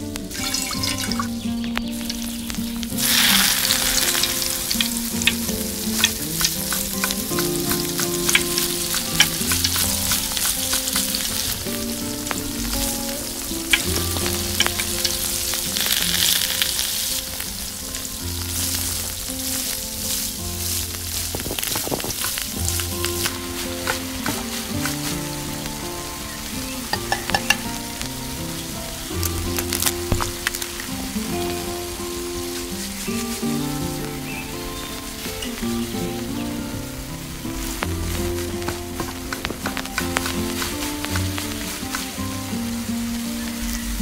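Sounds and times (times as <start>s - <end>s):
vegetables sizzling in hot oil: 0.0s - 44.0s.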